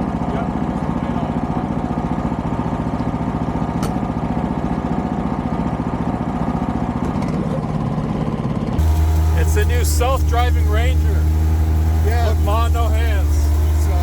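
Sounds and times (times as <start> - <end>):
small vehicle engine running: 0.0 - 14.0.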